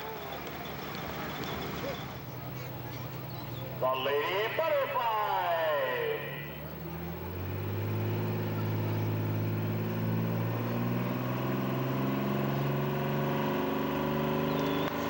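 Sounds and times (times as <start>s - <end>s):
diesel truck engine under throttle: 0.0s - 15.0s.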